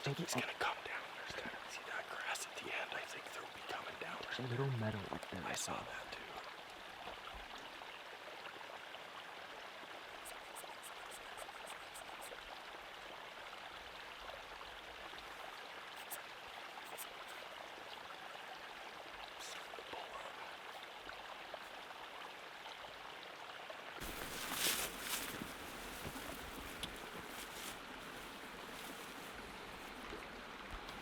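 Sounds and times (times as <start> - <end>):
small stream rushing: 0.0 - 31.0.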